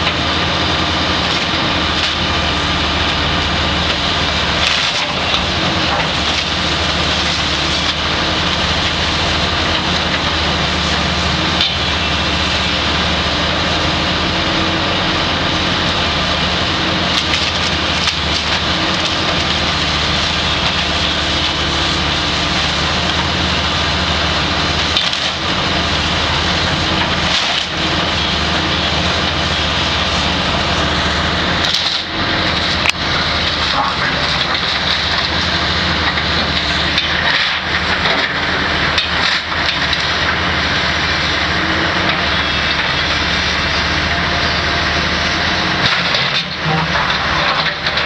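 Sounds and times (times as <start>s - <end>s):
wood splintering and cracking: 0.0s - 13.1s, 15.9s - 43.5s, 45.0s - 48.0s
excavator diesel engine running: 0.0s - 48.0s.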